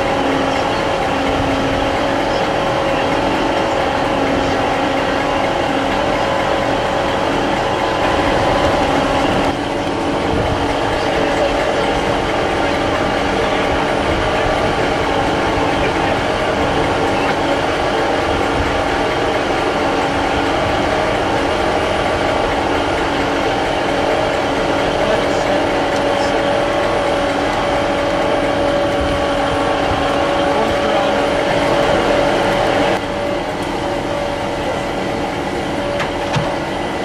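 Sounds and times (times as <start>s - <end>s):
diesel train engines idling: 0.0s - 37.0s
faint voices: 0.0s - 37.0s.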